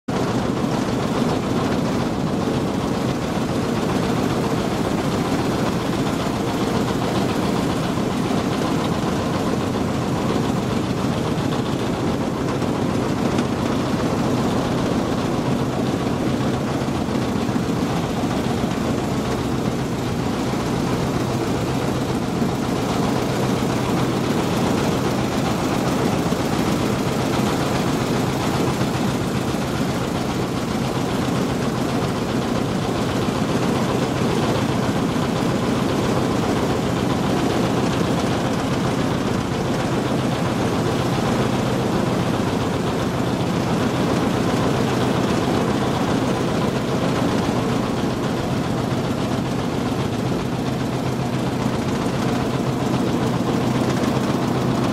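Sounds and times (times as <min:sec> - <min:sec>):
boat engine droning: 0:00.2 - 0:54.9.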